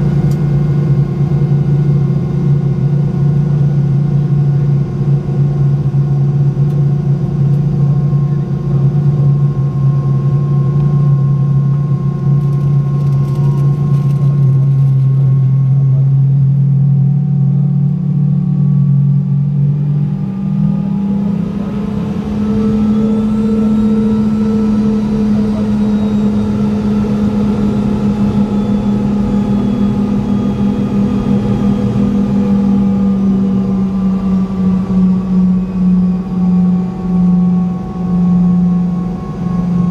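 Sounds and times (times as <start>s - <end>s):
jet engines humming in cabin: 0.0s - 39.9s.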